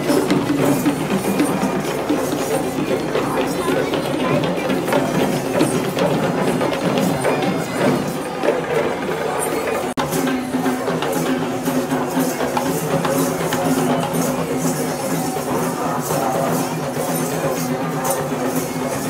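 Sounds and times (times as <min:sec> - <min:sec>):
drums: 0:00.0 - 0:19.0
jingling metal percussion: 0:00.0 - 0:19.0.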